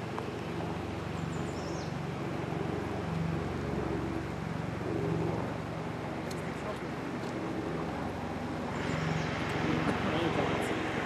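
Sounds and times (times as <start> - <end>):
outdoor noise: 0.0 - 11.0
vehicle engine running: 0.0 - 11.0.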